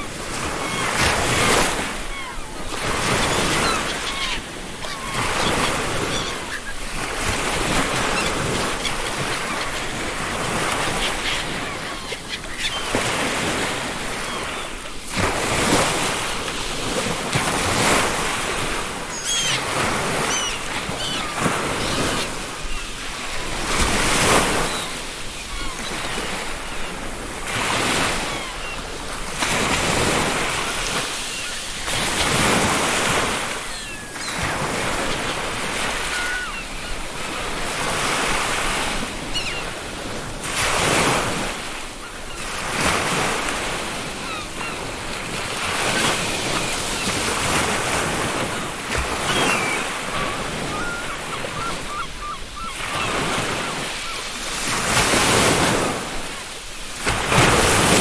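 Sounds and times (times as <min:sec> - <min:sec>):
seagull calls: 0:00.0 - 0:16.2, 0:17.4 - 0:39.9, 0:40.8 - 0:55.8
ocean surf breaking: 0:00.0 - 0:58.0.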